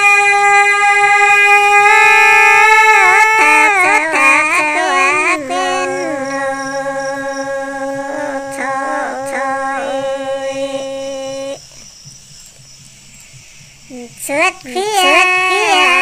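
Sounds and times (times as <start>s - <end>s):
woman singing folk song: 0.0s - 11.6s, 13.9s - 16.0s.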